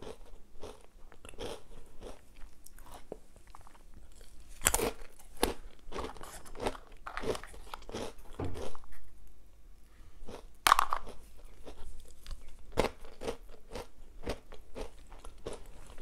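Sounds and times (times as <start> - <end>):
breadsticks crunching: 0.0 - 9.1, 10.3 - 16.0.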